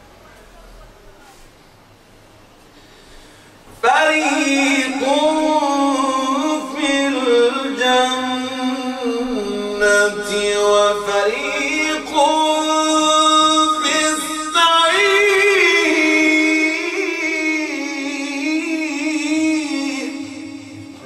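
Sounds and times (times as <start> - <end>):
man chanting recitation: 3.7 - 21.0.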